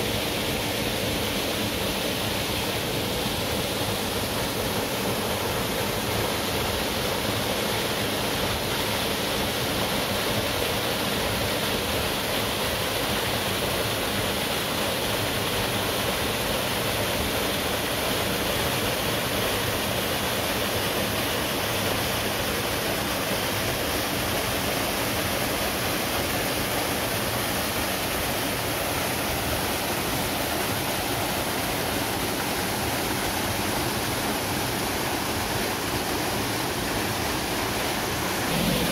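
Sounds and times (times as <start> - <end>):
waterfall pouring: 0.0 - 38.9.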